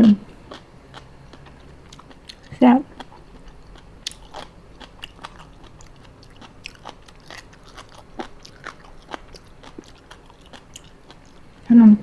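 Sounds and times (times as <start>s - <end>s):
chewing with crisp crunches: 0.0s - 11.7s
wet mouth clicks: 0.5s - 11.4s.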